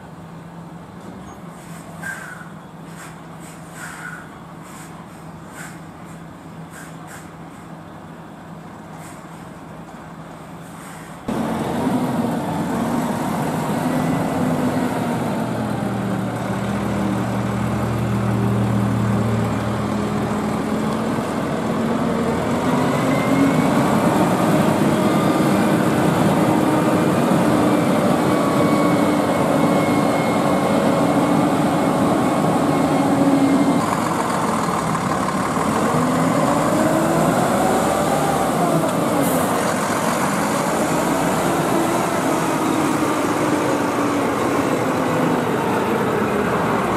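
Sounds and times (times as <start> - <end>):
truck diesel engine running: 4.4 - 46.9.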